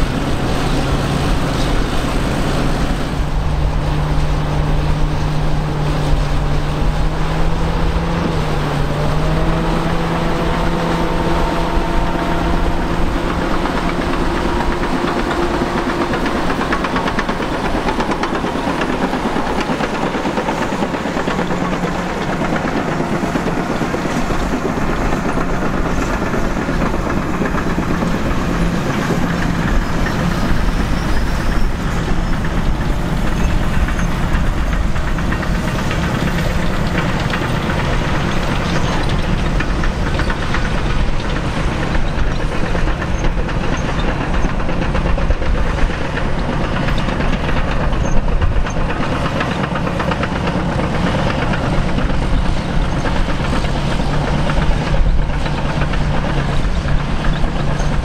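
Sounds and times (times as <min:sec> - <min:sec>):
heavy diesel engines under load: 0:00.0 - 0:58.0
steel tracks clanking and rattling: 0:00.0 - 0:58.0.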